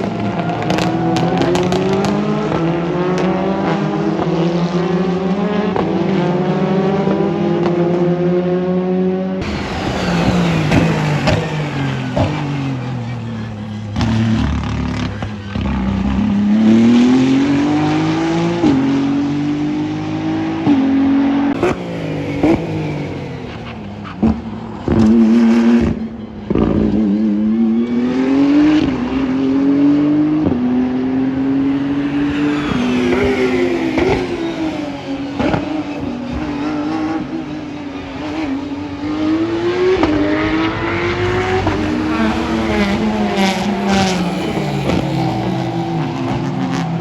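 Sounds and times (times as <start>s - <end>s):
racing car engine revving: 0.0s - 47.0s
racing cars passing by: 0.0s - 47.0s.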